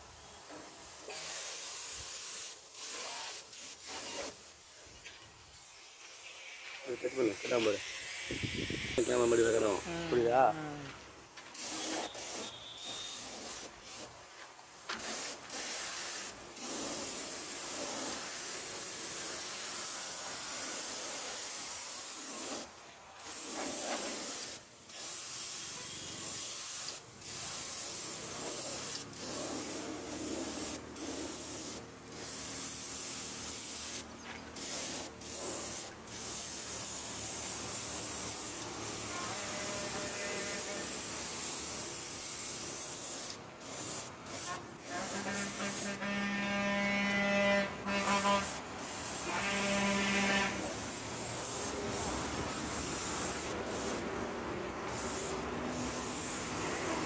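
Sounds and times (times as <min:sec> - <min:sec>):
paint spray gun hissing: 0:00.0 - 0:57.0.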